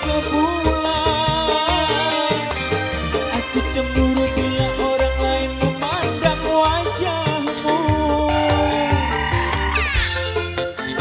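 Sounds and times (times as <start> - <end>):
bass: 0.0 - 11.0
gliding lead melody: 0.0 - 11.0
regular drum beat: 0.0 - 11.0.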